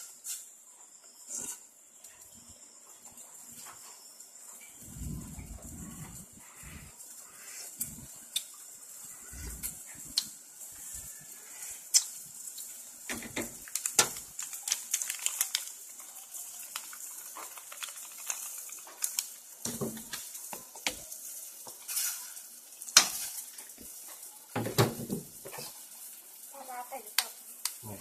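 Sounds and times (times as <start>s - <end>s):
larvae sizzling in hot oil: 0.0s - 28.0s
oil popping and crackling: 4.7s - 28.0s.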